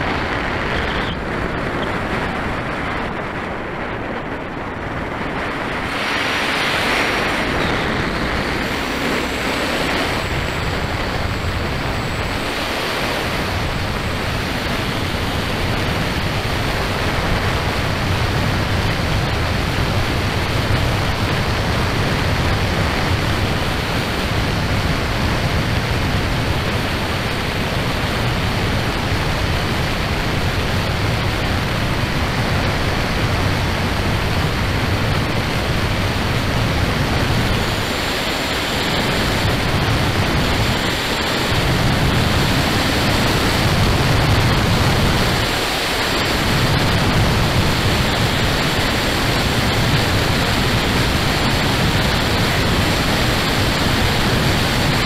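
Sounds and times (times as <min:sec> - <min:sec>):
motorcycle engine drone: 0:00.0 - 0:55.0
wind rush over microphone: 0:00.0 - 0:55.0.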